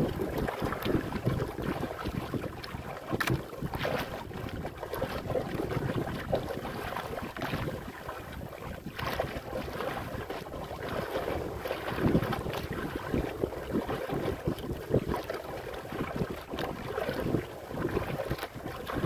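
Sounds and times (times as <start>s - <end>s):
waves slapping boat hull: 0.0s - 19.0s
wind buffeting microphone: 0.0s - 19.0s.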